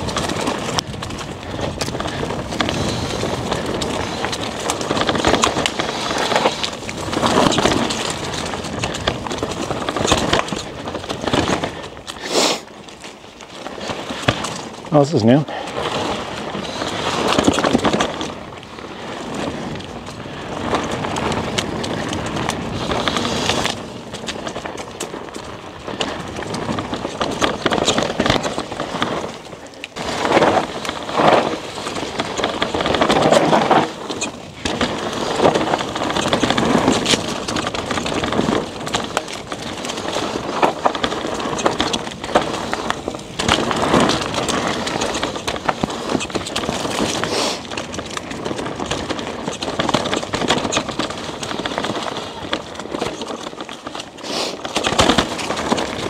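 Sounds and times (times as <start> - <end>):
bike knocks and rattles: 0.0 - 12.2, 12.8 - 14.9, 15.5 - 56.0
tyres crunching over dirt: 0.0 - 56.0.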